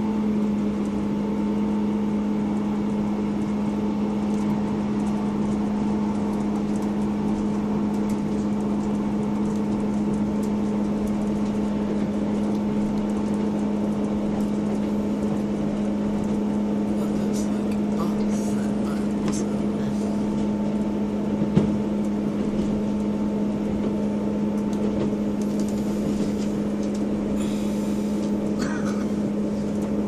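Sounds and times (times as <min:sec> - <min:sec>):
train low drone: 0:00.0 - 0:30.0
train running rumble: 0:00.0 - 0:30.0.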